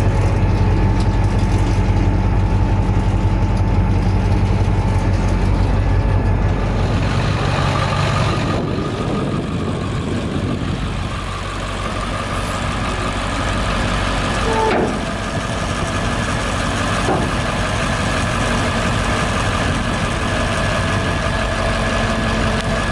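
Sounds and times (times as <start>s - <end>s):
diesel truck engine idling: 0.0s - 22.9s.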